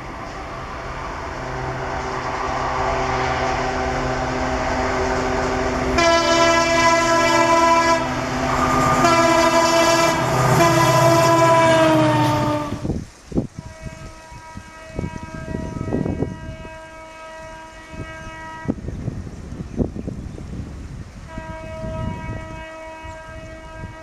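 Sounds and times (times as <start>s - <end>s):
diesel locomotive engine running: 0.0s - 20.0s
locomotive horn blasts: 1.4s - 12.9s, 13.6s - 18.8s, 21.3s - 24.0s.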